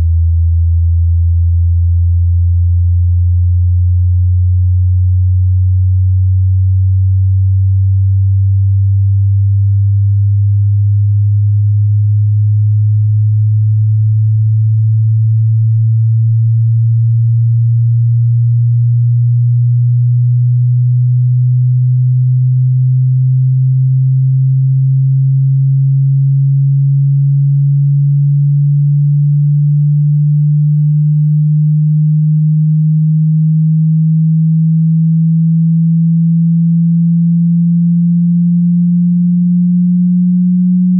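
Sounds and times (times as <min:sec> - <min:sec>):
low sine tone sweeping upward: 0:00.0 - 0:40.9.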